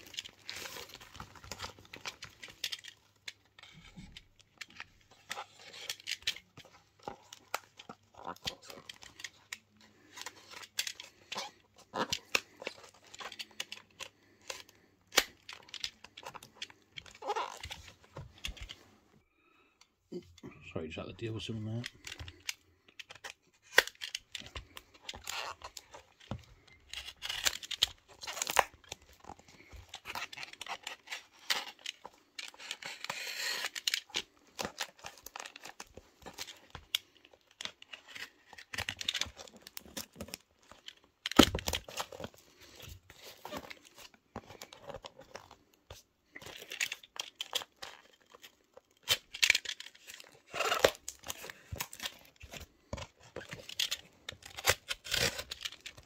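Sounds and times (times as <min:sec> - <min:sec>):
paper and tape crinkling: 0:00.0 - 0:19.0, 0:20.9 - 0:56.0.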